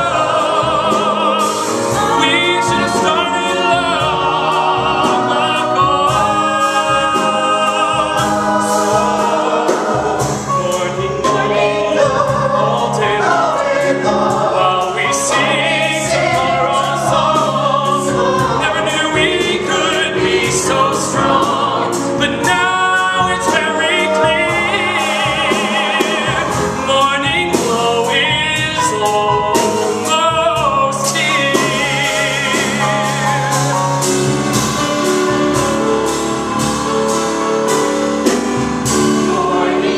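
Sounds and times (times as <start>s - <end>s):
man singing lead: 0.0s - 33.7s
bass: 0.0s - 39.9s
choir singing: 0.0s - 39.9s
drums: 0.0s - 39.9s
piano: 0.0s - 39.9s.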